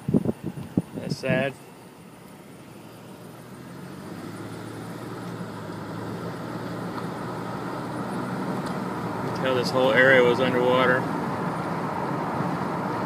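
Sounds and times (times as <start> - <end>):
car engine: 0.0 - 13.0
tyres rushing on road: 2.2 - 13.0.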